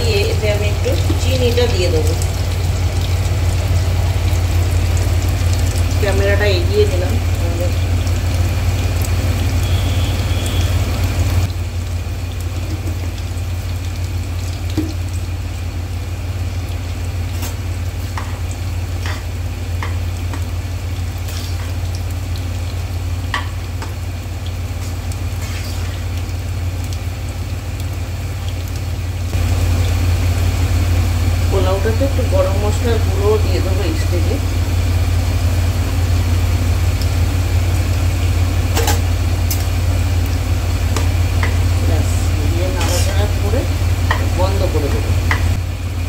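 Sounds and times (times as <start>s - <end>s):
low hum: 0.0s - 46.0s
potatoes sizzling in oil: 0.0s - 46.0s.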